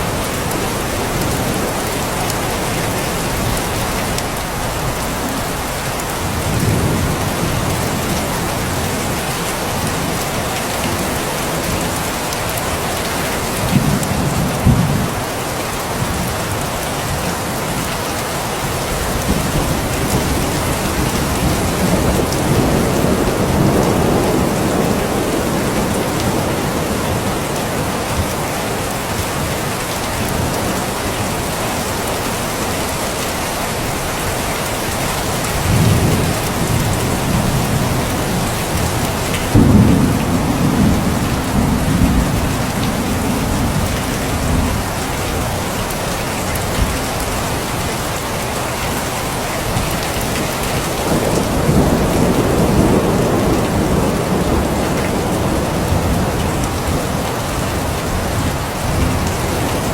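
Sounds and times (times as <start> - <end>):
thunder rumbling and cracking: 0.0 - 15.4, 18.7 - 31.6, 34.8 - 47.4, 49.6 - 59.9
steady rain falling: 0.0 - 59.9.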